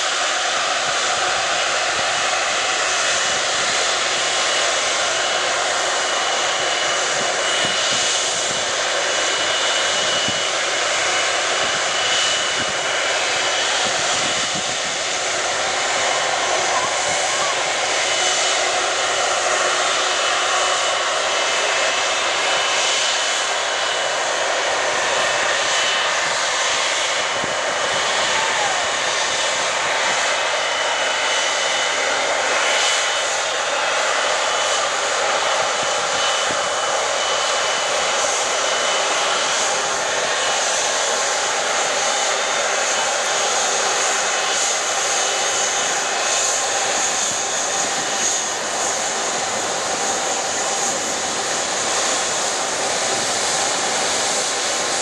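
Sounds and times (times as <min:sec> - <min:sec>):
jet engines taxiing: 0:00.0 - 0:55.0.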